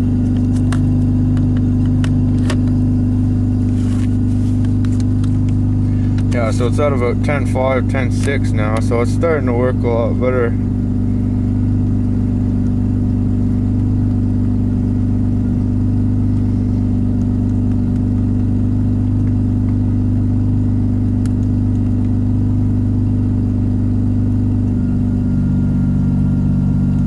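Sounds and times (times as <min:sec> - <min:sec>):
rotary engine idling: 0:00.0 - 0:27.0.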